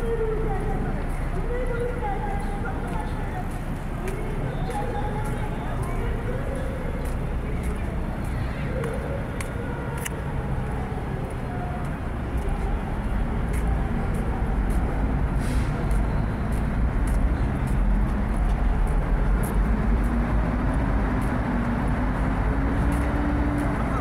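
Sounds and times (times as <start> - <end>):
cars and buses passing: 0.0 - 24.0
low traffic rumble: 0.0 - 24.0.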